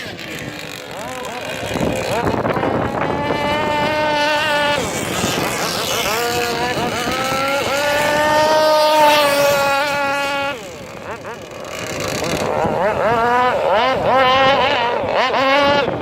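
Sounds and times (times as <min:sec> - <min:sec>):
two-stroke model boat engine whining: 0:00.0 - 0:16.0.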